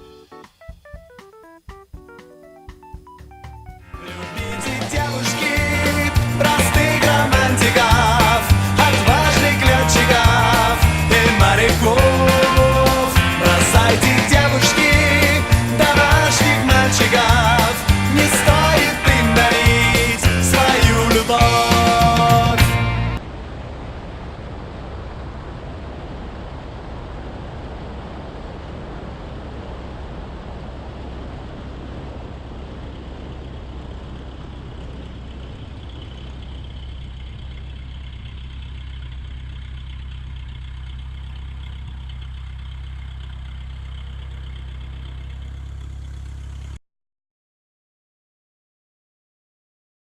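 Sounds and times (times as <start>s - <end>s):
airplane piston engine and propeller: 4.0s - 46.8s.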